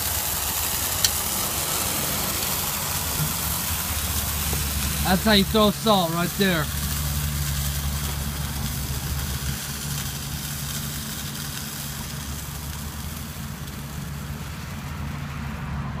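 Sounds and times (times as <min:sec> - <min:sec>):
even hiss: 0:00.0 - 0:15.8
truck engine idling: 0:00.0 - 0:16.0.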